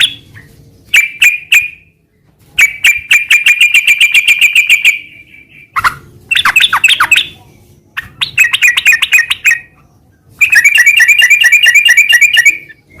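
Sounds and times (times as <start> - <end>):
bird fast chattering song: 0.0 - 1.9, 2.6 - 13.0.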